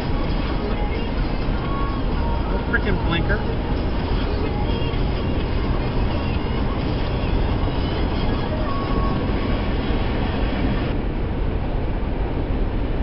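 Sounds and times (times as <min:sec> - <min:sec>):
road noise hiss: 0:00.0 - 0:13.0
truck engine rumble: 0:00.0 - 0:13.0.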